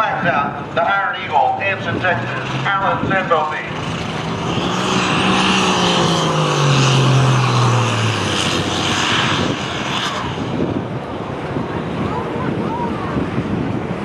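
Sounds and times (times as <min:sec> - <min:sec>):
tractor engine at high revs: 0:00.0 - 0:12.5.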